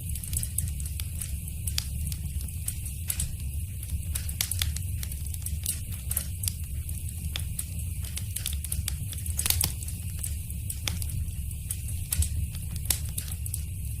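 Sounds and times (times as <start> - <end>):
low rumble of flames: 0.0 - 14.0
wood fire popping and snapping: 0.0 - 14.0.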